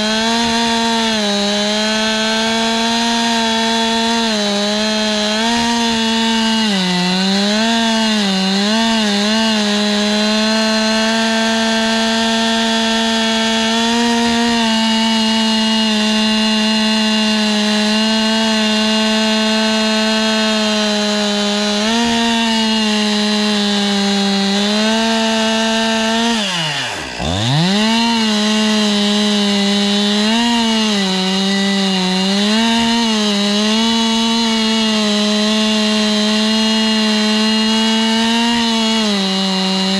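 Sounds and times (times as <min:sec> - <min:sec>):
chainsaw engine milling a log: 0:00.0 - 0:39.9.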